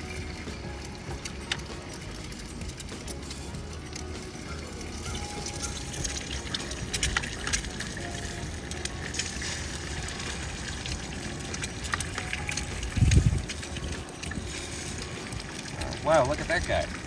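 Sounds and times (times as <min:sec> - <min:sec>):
eggs sizzling in hot oil: 0:00.0 - 0:17.0.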